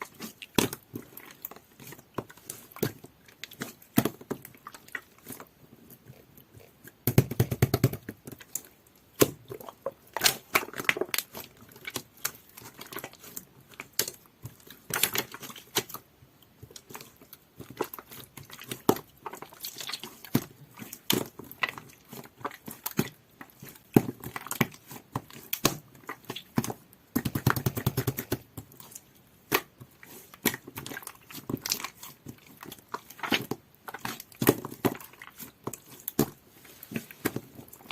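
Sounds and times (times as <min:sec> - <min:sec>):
slime squelching crackle: 0:00.0 - 0:07.1, 0:08.1 - 0:37.9.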